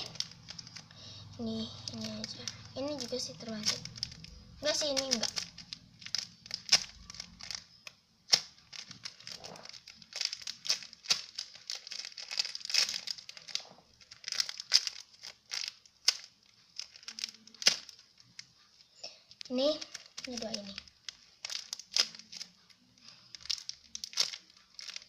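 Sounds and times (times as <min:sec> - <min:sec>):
plastic crinkling: 0:00.0 - 0:25.0.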